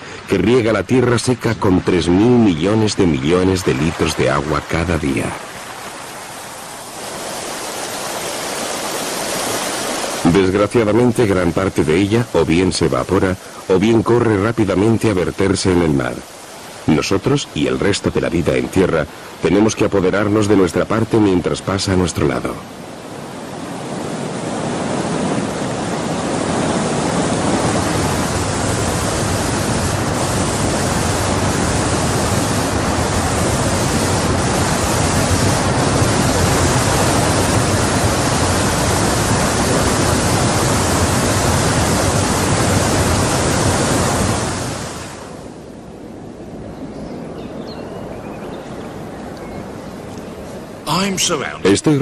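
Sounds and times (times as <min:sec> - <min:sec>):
waterfall rushing: 0:00.0 - 0:45.8, 0:48.3 - 0:52.0.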